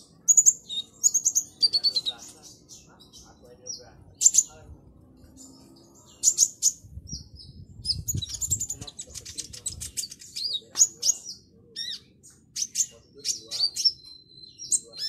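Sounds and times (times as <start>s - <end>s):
sunbird chirping and trilling: 0.0s - 15.0s.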